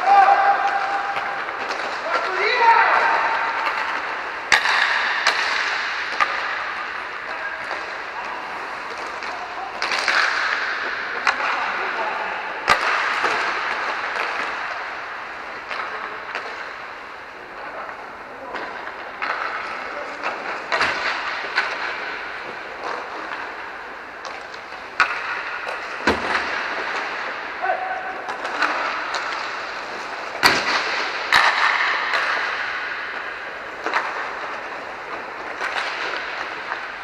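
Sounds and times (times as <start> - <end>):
pucks striking boards: 0.0 - 37.0
skate wheels rolling on rink floor: 0.0 - 37.0
sticks cracking on pucks: 0.0 - 37.0.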